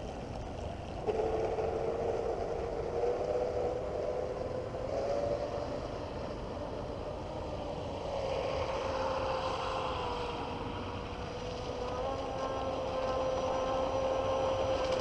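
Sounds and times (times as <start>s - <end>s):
electric boat motor whine: 0.0s - 15.0s.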